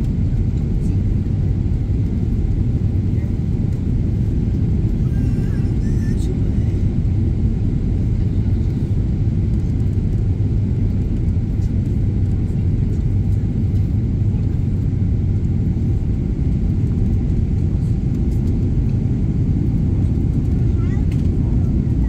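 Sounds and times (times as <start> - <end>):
airplane cabin engine and airflow rumble: 0.0 - 22.0.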